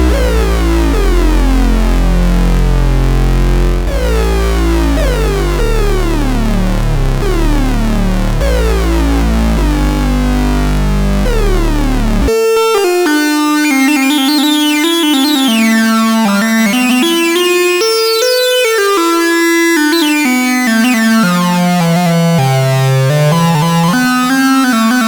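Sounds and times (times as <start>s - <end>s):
synthesizer lead melody: 0.0s - 2.1s, 3.8s - 25.0s
synthesizer bass sweeping downward: 0.0s - 12.3s, 14.1s - 25.0s.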